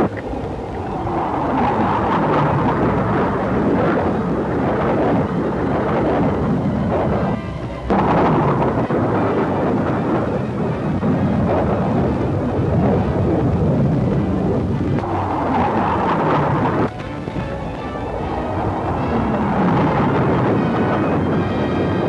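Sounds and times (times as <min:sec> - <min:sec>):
aircraft flying past low: 0:00.0 - 0:22.0.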